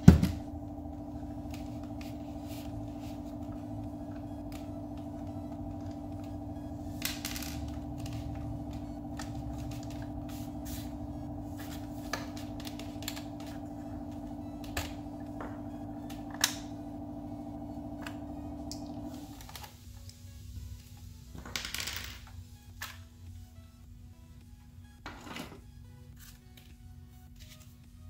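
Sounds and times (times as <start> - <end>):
steady hum: 0.0 - 21.5, 22.2 - 25.0.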